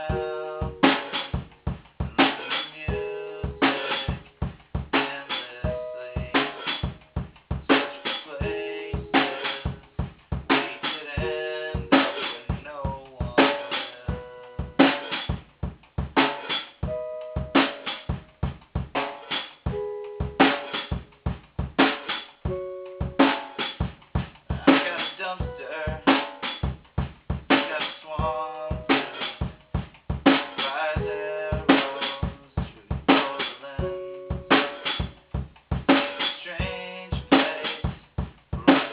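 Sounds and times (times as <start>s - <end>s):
drum beat of kick and snare: 0.0s - 38.9s.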